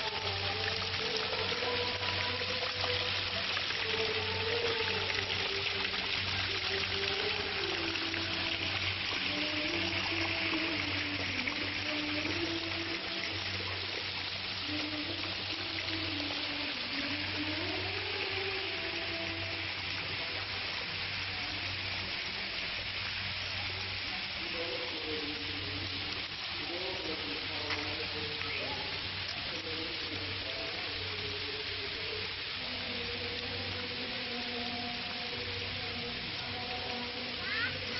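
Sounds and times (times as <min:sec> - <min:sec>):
water splashing into a pool: 0:00.0 - 0:37.9.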